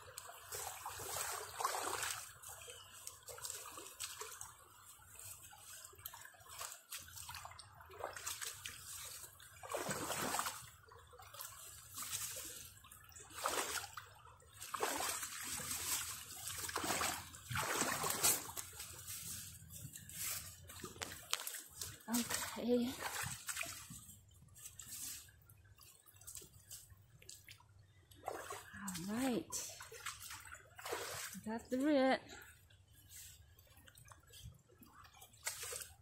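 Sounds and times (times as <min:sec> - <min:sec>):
feet splashing through water: 0:00.0 - 0:31.5, 0:32.4 - 0:36.0
creek water running over rocks: 0:00.0 - 0:36.0.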